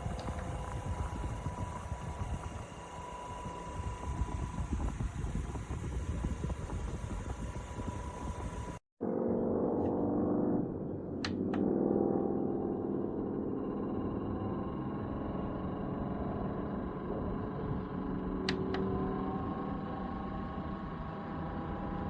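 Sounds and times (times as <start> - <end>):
portable cooling fan running: 0.0 - 8.8, 12.5 - 22.0.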